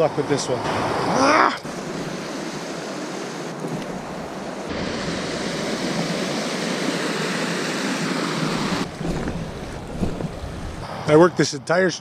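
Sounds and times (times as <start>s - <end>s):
water rushing over rocks: 1.1s - 10.9s.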